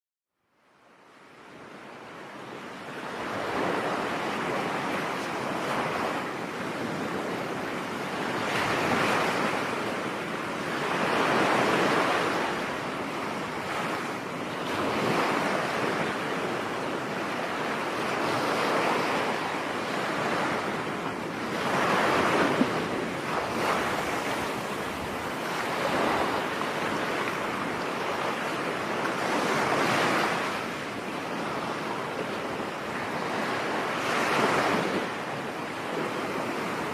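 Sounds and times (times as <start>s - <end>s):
ocean waves breaking on beach: 0.6s - 36.9s.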